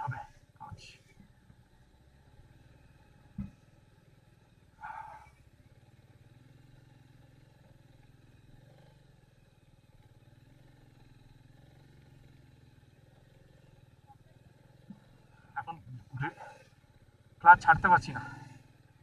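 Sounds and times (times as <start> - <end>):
motorcycle engine low hum: 0.0 - 19.0.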